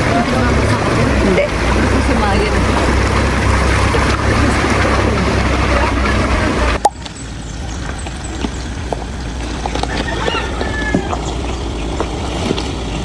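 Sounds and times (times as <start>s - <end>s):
rushing river water: 0.0s - 13.0s.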